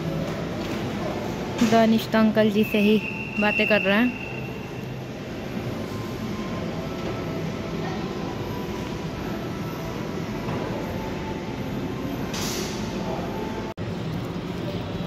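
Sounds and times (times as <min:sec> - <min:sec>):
indoor mall hall rumble: 0:00.0 - 0:15.0.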